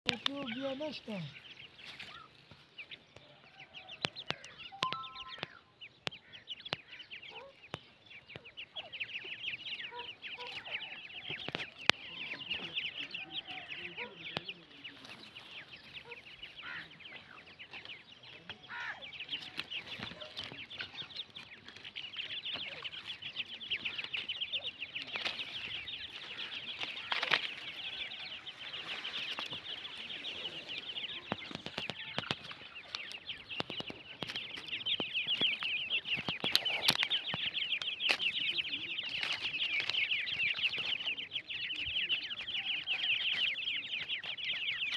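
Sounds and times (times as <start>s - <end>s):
chicks cheeping: 0.0s - 44.9s.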